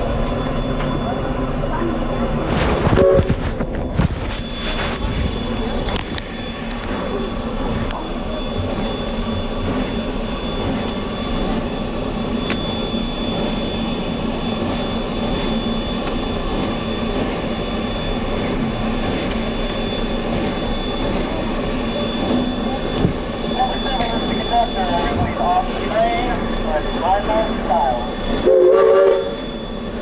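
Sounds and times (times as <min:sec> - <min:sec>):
train wheels rolling on rails: 0:01.8 - 0:30.0
thin steady high tone: 0:04.2 - 0:30.0.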